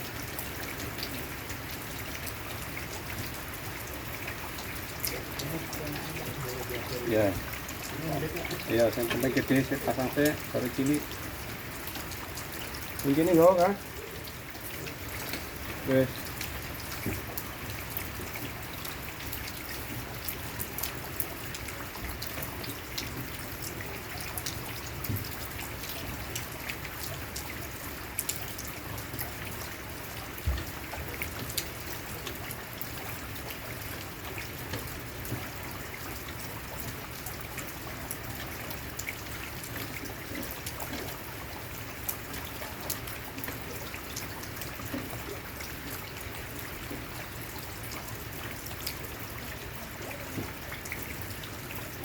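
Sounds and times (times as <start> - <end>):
light rain pattering: 0.0 - 52.0.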